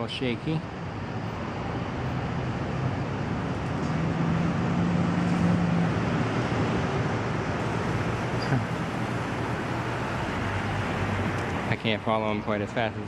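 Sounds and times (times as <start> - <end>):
city traffic hum: 0.0 - 13.0
vehicle engine hum: 0.0 - 13.0.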